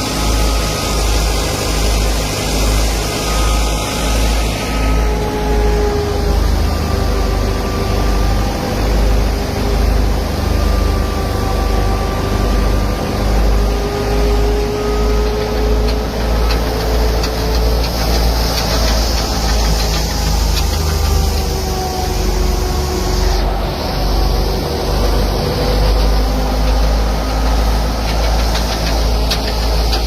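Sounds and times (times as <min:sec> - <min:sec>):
thresher rumbling: 0:00.0 - 0:30.0.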